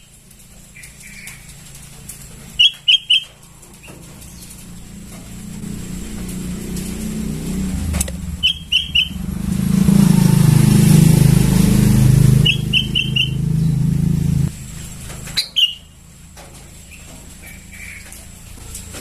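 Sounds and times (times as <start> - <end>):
bird chicks chirping: 0.0 - 16.1, 16.7 - 19.0
vehicle engine drone: 0.0 - 19.0.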